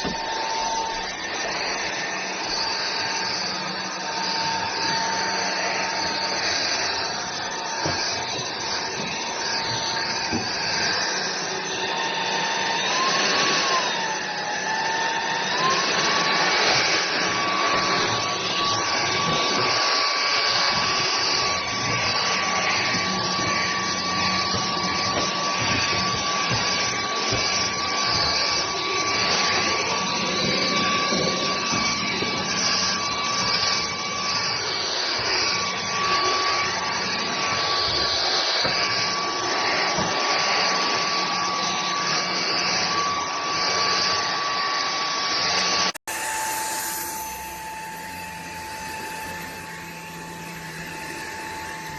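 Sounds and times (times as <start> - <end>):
stick vacuum motor whine: 0.0 - 51.9.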